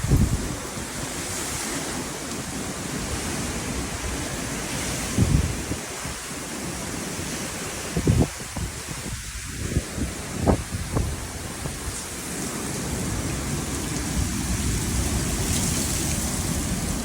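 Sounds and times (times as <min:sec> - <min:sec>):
wind and rain hissing: 0:00.0 - 0:17.0
wind buffeting microphone: 0:00.0 - 0:17.0.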